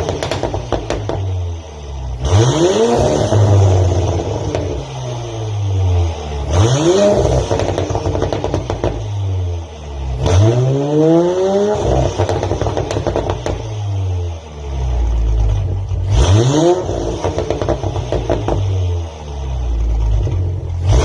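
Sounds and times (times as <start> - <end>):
exhaust popping and crackling: 0.0 - 5.3, 6.4 - 21.0
car engine revving: 0.0 - 21.0.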